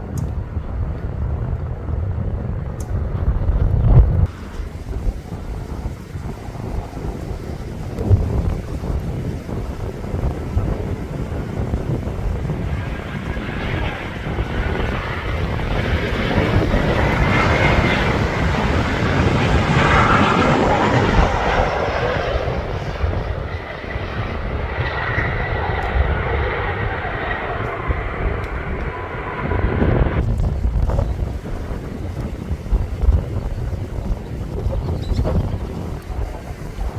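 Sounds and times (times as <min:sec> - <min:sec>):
jet airliner engines roaring: 0:00.0 - 0:36.9
wind buffeting microphone: 0:00.0 - 0:36.9.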